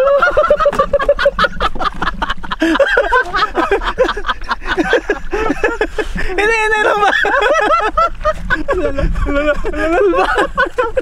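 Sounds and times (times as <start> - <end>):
people laughing hard: 0.0 - 11.0.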